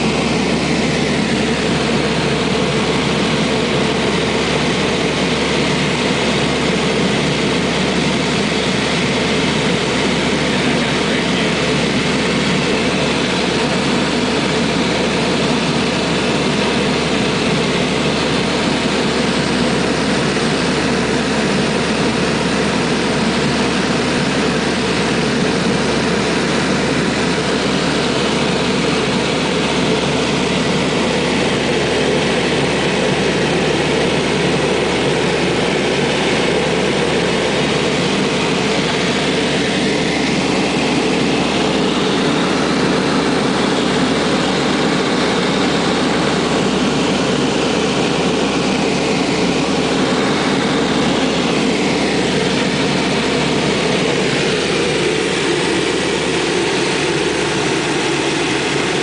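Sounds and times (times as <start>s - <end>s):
airplane engines droning in cabin: 0.0s - 59.0s.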